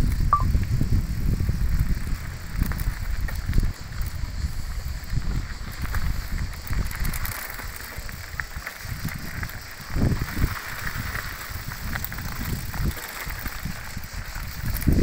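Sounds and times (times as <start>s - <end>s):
wind buffeting microphone: 0.0s - 15.0s
tyres crunching over gravel: 2.2s - 15.0s.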